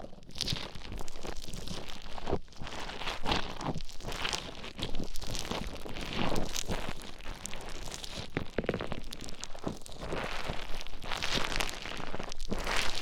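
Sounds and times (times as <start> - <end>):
foam crackling and crunching: 0.0 - 13.0.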